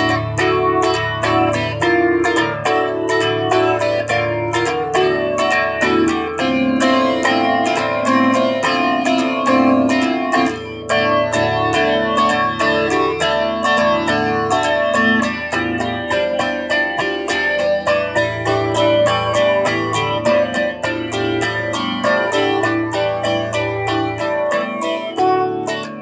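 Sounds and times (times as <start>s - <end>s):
solo guitar picking a melody: 0.0s - 26.0s.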